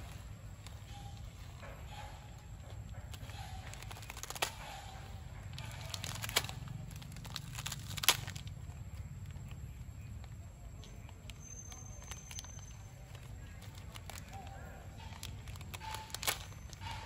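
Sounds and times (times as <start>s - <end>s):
dry noodles crackling: 0.0s - 17.0s.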